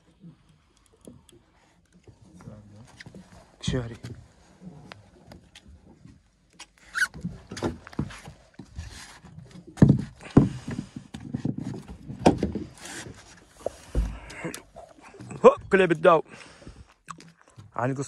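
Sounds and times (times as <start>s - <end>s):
knocks and thumps on a boat: 2.1s - 16.9s.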